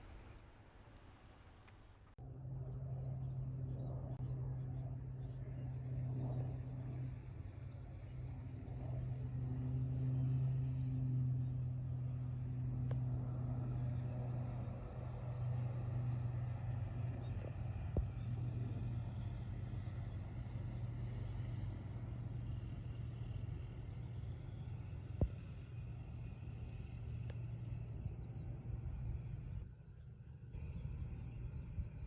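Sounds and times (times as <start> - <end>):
distant aircraft engines drone: 0.0 - 32.0.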